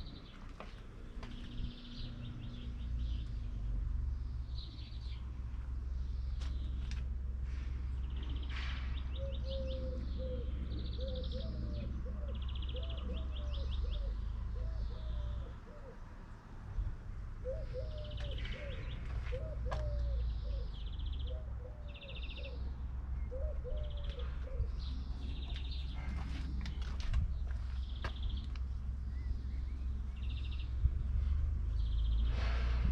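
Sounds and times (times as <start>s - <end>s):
steady low rumble: 0.0s - 15.2s, 16.0s - 32.9s
small birds chirping and trilling: 0.0s - 32.7s.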